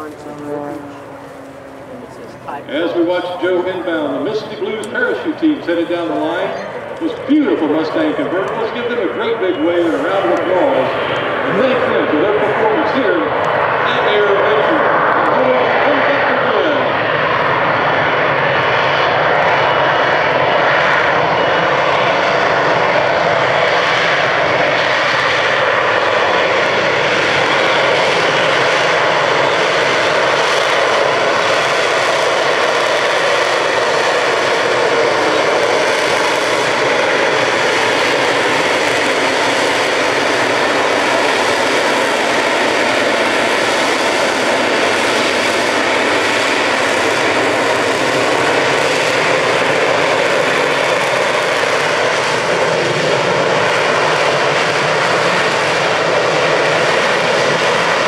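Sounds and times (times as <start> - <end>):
jet engine roaring with high whine: 0.0 - 58.0.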